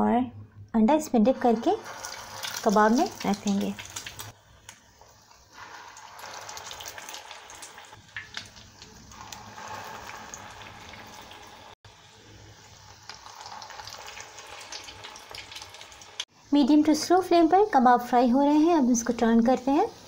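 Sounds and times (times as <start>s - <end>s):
patties sizzling in hot oil: 1.0s - 20.0s.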